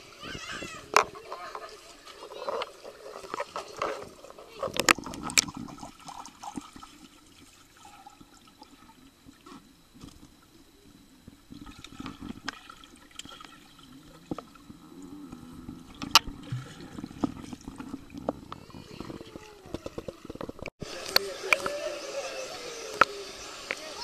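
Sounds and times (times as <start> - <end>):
water splashing and gurgling: 0.0 - 24.0.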